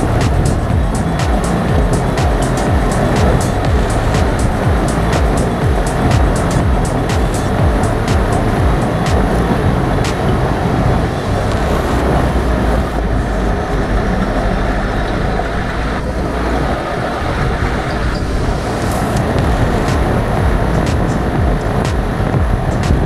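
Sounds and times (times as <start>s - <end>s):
engine and tyres rumbling: 0.0s - 23.0s.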